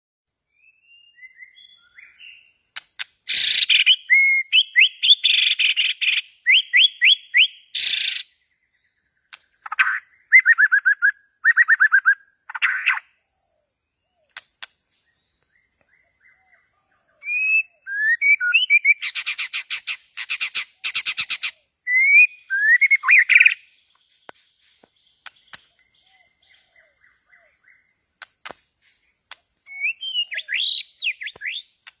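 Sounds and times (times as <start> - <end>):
bird singing whistles and trills: 0.5 - 2.6, 3.3 - 14.3, 15.0 - 27.9, 29.6 - 32.0.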